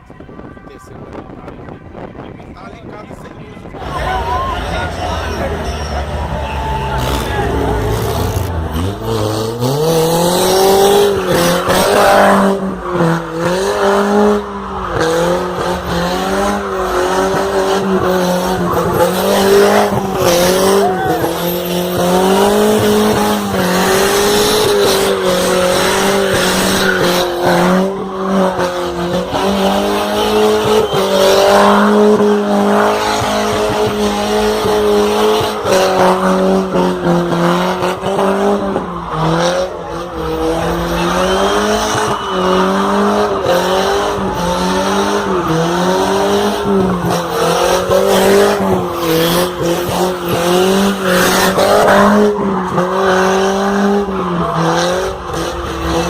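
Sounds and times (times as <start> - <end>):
car engine drone: 0.0 - 56.0
tyres squealing: 3.7 - 56.0.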